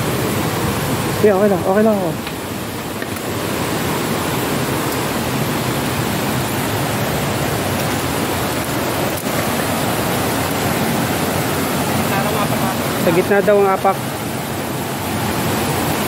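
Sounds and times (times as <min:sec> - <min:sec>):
waterfall pouring over rocks: 0:00.0 - 0:16.0.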